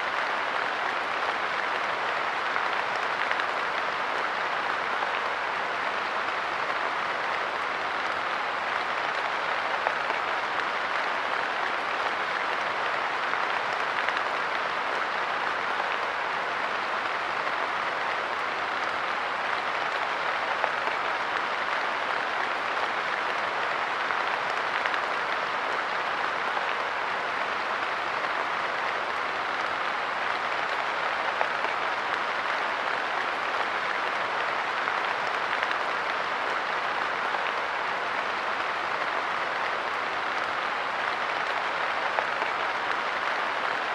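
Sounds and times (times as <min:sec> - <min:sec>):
light rain on a bench: 0:00.1 - 0:43.9.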